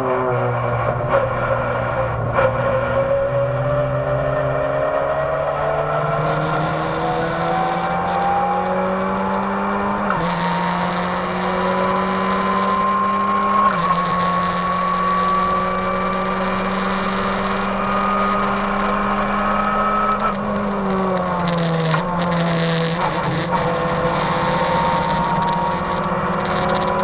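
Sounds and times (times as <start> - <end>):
race car engine accelerating: 0.0 - 27.0.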